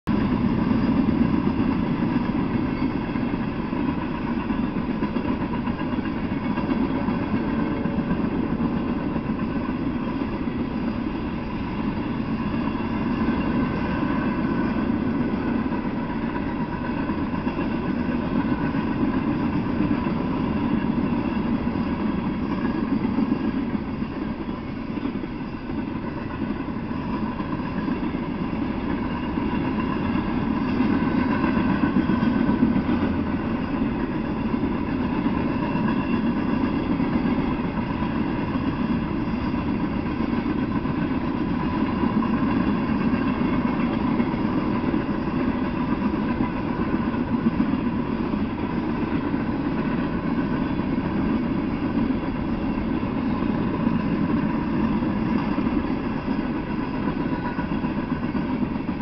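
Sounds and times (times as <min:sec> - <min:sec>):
freight train rumbling past: 0:00.0 - 0:59.0
faint steady whine: 0:00.1 - 0:59.0.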